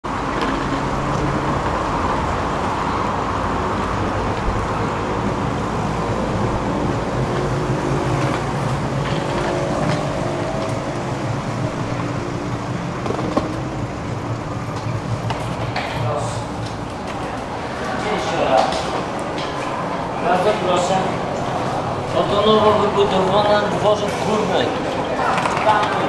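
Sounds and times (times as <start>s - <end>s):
traffic noise: 0.0s - 26.0s
low engine hum: 0.1s - 25.2s.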